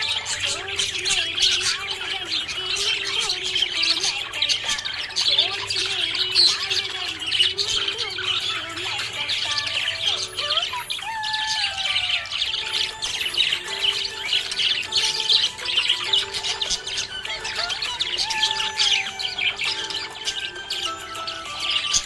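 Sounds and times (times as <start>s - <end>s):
budgerigar chirping: 0.0s - 22.0s.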